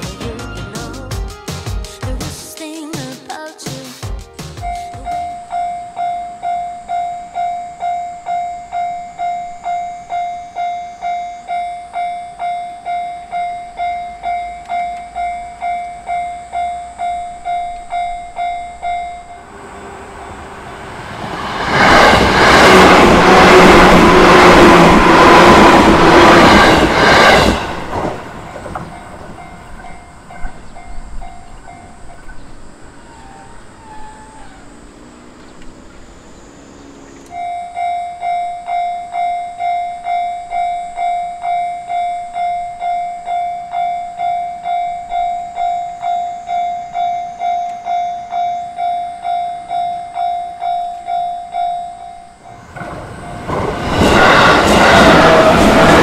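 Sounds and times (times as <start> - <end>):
electric train passing: 4.4 - 56.0
crossing warning bell ringing: 4.6 - 19.9, 22.1 - 56.0.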